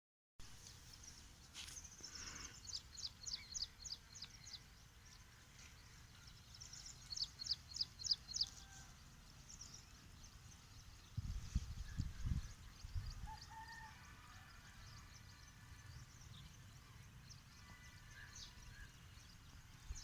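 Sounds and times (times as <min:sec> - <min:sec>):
small songbird singing: 0:00.7 - 0:20.0.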